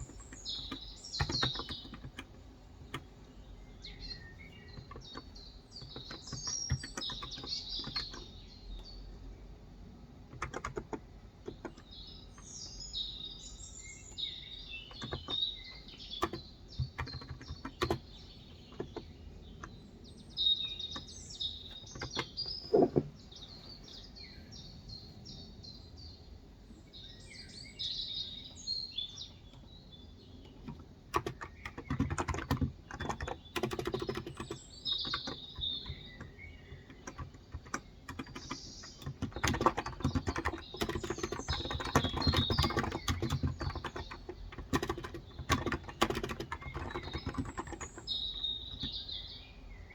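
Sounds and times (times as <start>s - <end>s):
soft keyboard typing: 0.0s - 9.3s, 10.2s - 12.7s, 13.9s - 23.1s, 29.1s - 49.1s
birds chirping: 0.0s - 49.9s.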